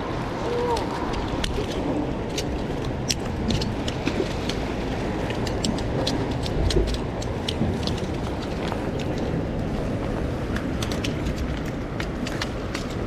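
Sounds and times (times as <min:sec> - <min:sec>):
surf: 0:00.0 - 0:13.0
wind: 0:00.0 - 0:13.0.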